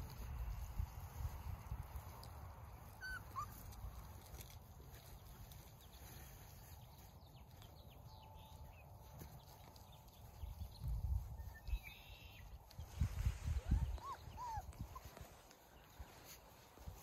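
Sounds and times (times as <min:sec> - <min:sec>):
rustling on dry grass: 0:00.0 - 0:17.0.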